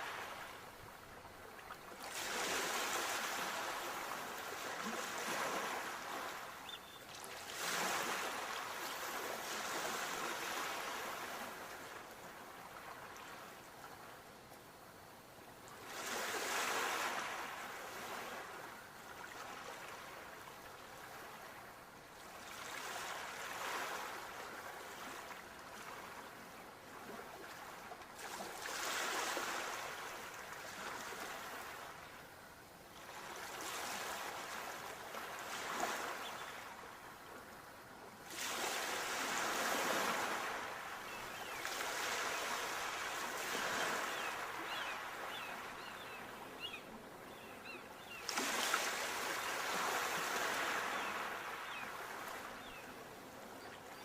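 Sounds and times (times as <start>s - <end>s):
ocean waves breaking on shore: 0.0s - 14.1s, 15.7s - 32.3s, 33.0s - 54.0s.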